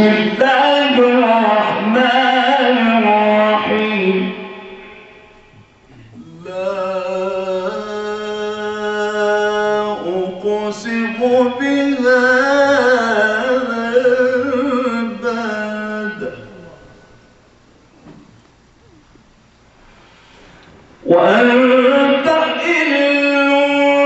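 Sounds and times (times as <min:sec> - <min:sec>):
man reciting melodically: 0:00.0 - 0:17.4, 0:21.0 - 0:24.0.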